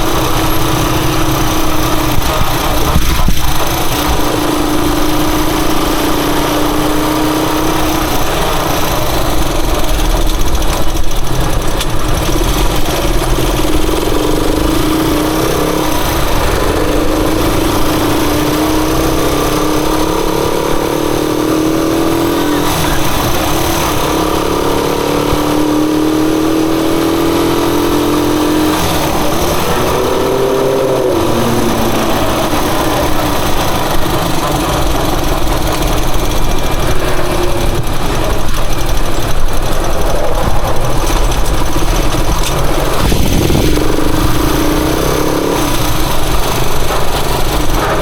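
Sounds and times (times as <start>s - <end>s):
motorcycle engine running: 0.0s - 48.0s
steady rushing noise: 0.0s - 48.0s.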